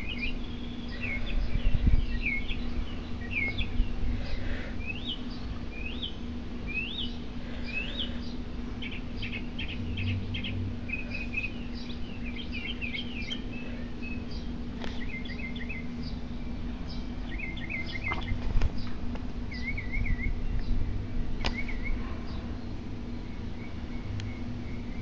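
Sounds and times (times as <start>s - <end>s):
low hum and rumble: 0.0s - 25.0s
small birds chirping: 0.0s - 25.0s.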